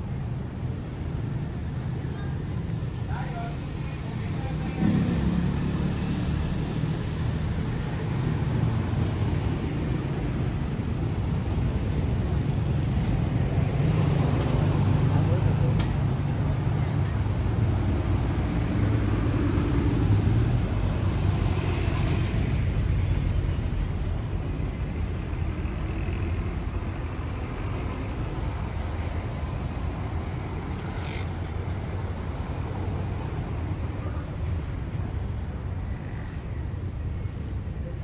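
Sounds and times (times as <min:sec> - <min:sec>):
city background noise: 0:00.0 - 0:38.0
vehicle rumble: 0:00.0 - 0:38.0.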